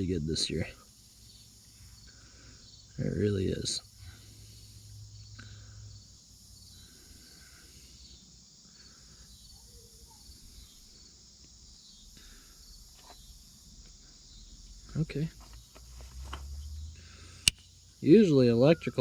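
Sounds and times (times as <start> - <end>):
insect buzzing: 0.0 - 18.3
insect trilling: 0.0 - 19.0.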